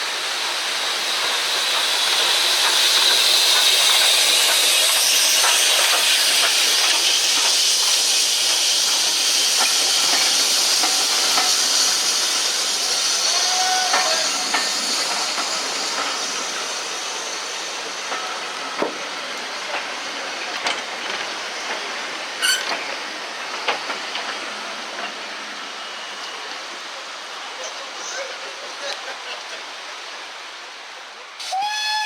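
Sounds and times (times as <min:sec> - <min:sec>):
train clanks and knocks: 0:00.0 - 0:30.4
steam locomotive hissing steam: 0:00.0 - 0:32.0.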